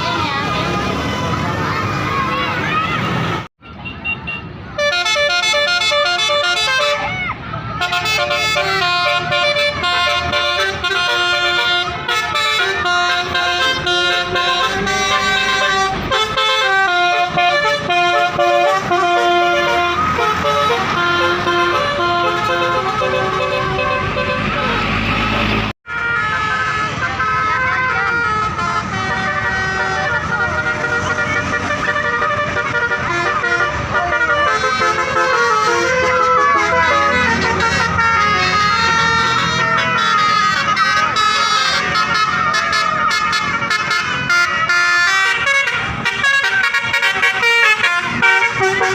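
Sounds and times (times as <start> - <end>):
traffic rumble: 0.0 - 48.9
musical bus horn playing tune: 4.0 - 7.2, 7.8 - 48.9.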